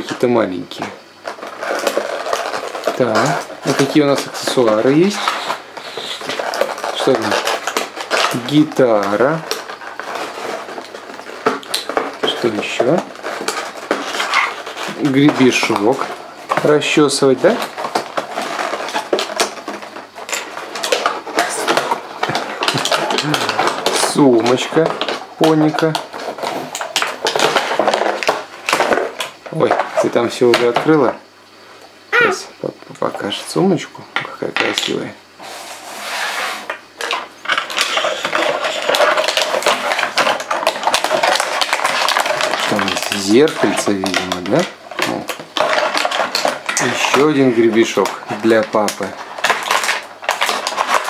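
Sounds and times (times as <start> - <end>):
plastic toys clicking and rattling: 0.0 - 31.2, 32.1 - 35.2, 36.6 - 51.0
plastic bag crinkling: 0.0 - 33.8, 34.4 - 51.0
rustling: 0.0 - 51.0.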